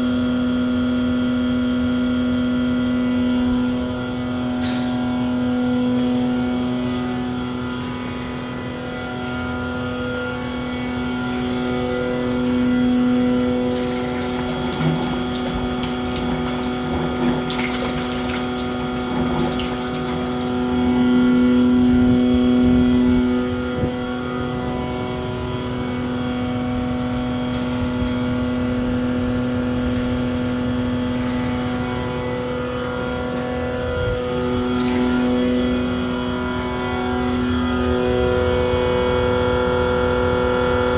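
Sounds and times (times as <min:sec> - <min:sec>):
machine hum with steady tones: 0:00.0 - 0:40.9.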